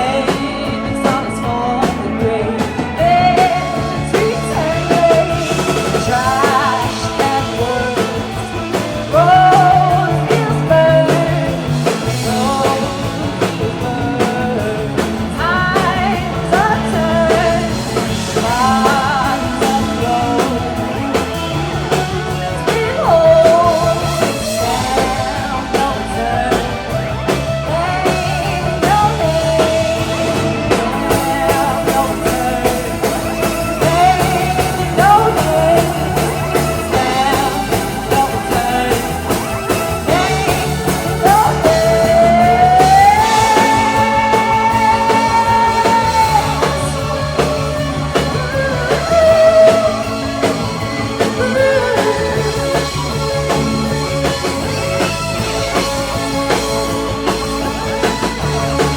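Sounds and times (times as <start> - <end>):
person singing: 0.0 - 58.9
rock band playing live: 0.0 - 58.9.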